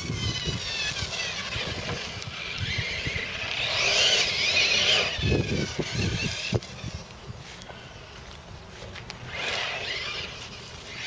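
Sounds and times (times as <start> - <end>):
electric motor whining: 0.0 - 8.3, 9.1 - 11.0.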